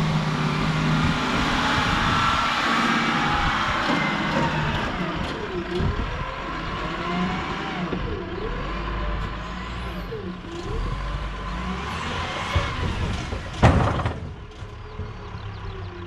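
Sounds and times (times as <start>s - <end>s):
skid-steer loader engine running: 0.0s - 16.0s.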